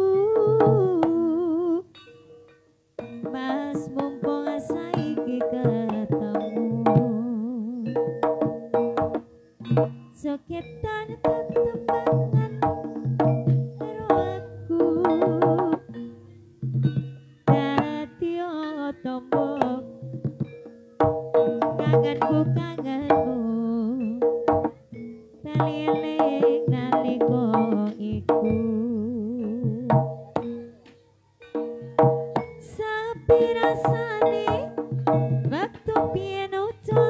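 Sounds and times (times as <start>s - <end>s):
hand drum beats: 0.0s - 1.3s, 3.0s - 18.4s, 19.0s - 30.9s, 31.5s - 37.0s
gamelan music: 1.7s - 37.0s.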